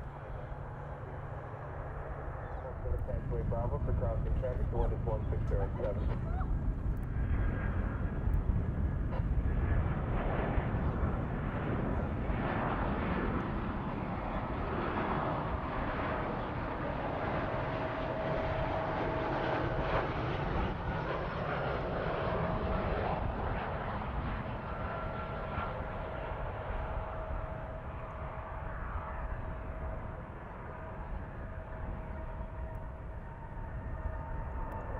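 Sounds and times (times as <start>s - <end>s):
jet airliner engines rumbling: 0.0s - 34.9s.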